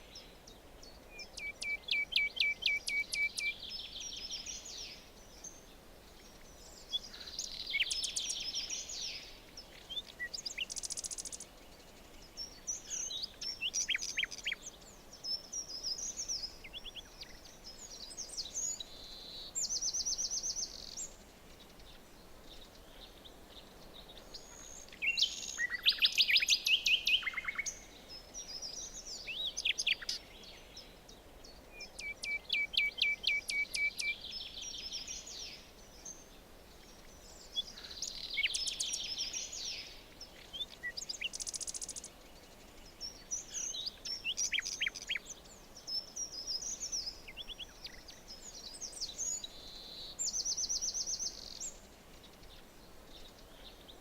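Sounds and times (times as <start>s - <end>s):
faint steady hiss: 0.0s - 54.0s
songbirds trilling and whistling: 0.0s - 54.0s.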